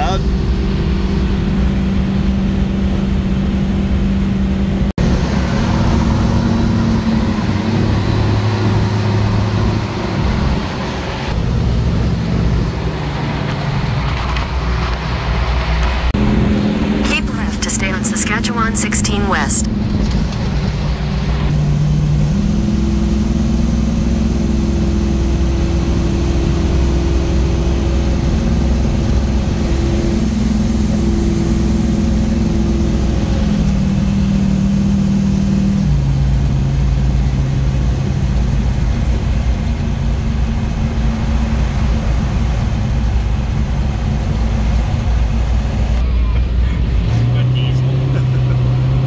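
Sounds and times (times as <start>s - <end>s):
car engine droning: 0.0s - 49.0s
road and tyre noise: 0.0s - 49.0s.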